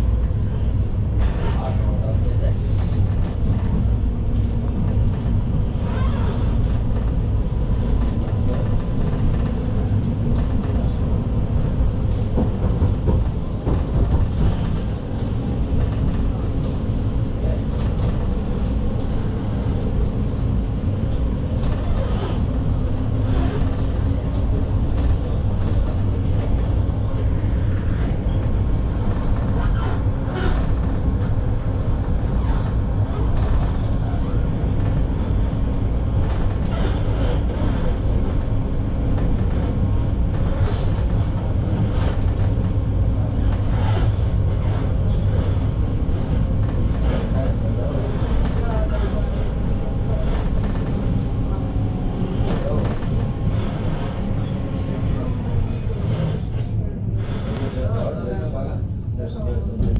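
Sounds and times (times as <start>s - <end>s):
tram cabin rumble: 0.0s - 59.9s.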